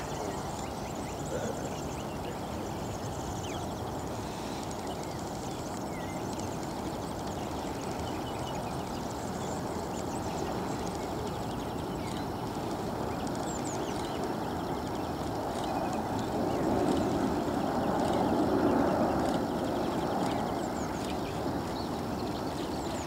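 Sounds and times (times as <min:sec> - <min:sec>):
distant jet engine rush: 0:00.0 - 0:23.0
small birds chirping: 0:00.0 - 0:23.0.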